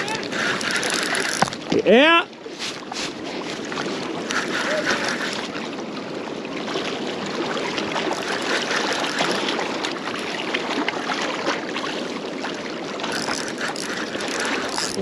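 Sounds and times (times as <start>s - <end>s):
water lapping against rocks: 0.0s - 15.0s.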